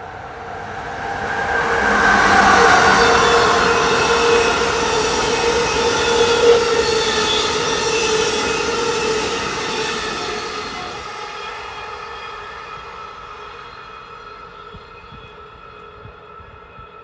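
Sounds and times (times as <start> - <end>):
passenger train passing: 0.0 - 17.0.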